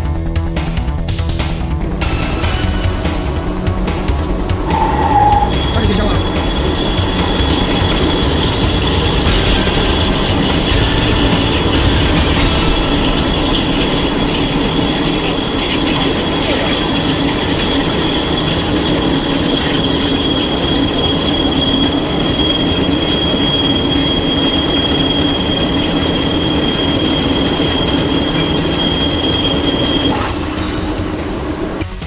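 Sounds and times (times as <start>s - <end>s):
high-pitched squeal: 3.2s - 31.8s
drill cutting in lathe: 4.6s - 31.8s.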